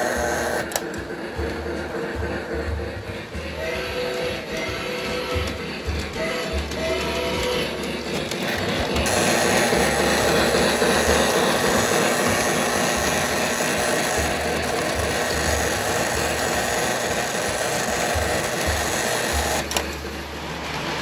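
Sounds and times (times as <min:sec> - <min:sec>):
toy train clattering on track: 0:00.0 - 0:21.0.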